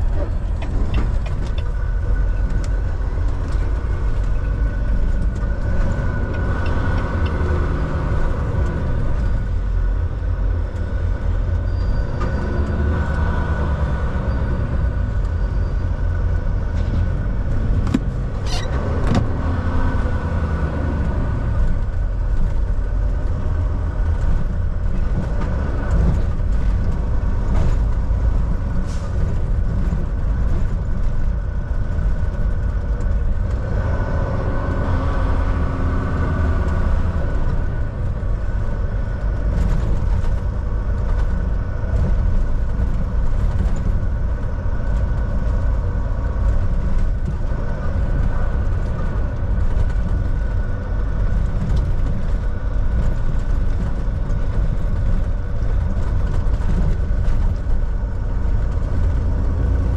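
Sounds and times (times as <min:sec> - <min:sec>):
truck engine and road drone: 0:00.0 - 0:59.9.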